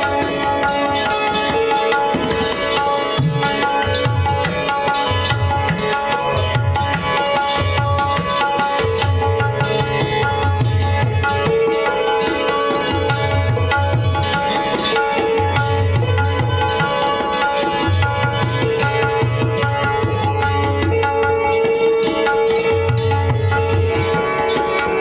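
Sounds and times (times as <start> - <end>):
tabla drumming: 0.0 - 25.0.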